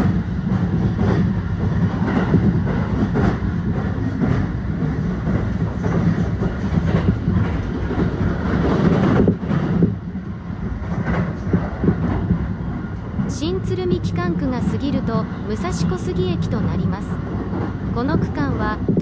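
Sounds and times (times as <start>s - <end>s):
train clickety-clack: 0.0s - 19.0s
train wheels rumbling on track: 0.0s - 19.0s.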